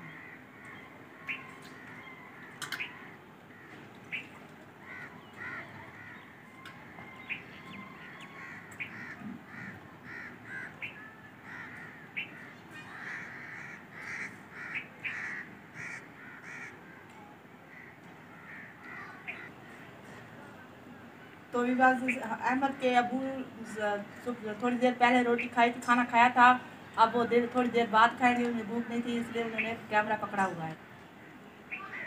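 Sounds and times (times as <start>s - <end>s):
birds calling: 0.0s - 20.3s, 20.9s - 32.0s.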